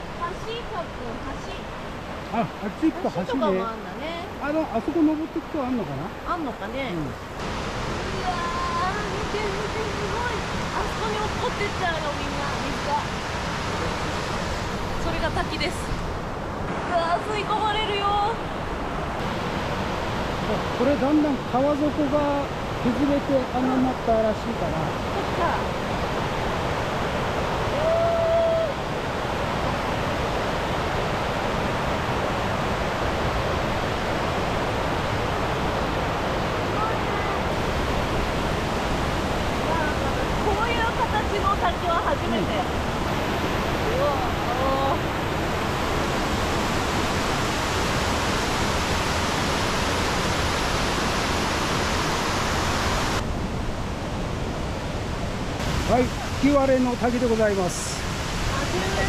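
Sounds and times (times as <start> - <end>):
river water pouring over rock ledges: 0.0 - 15.8, 16.9 - 53.2, 55.4 - 59.0.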